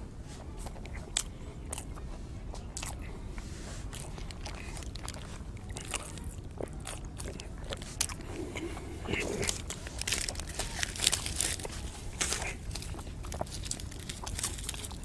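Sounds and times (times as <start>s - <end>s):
person chewing crunchy snacks: 0.6s - 15.0s.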